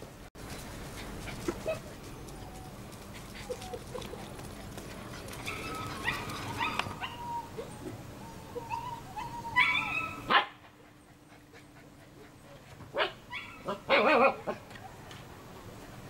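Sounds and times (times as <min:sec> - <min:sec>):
puppies yipping and whining: 0:01.3 - 0:15.1.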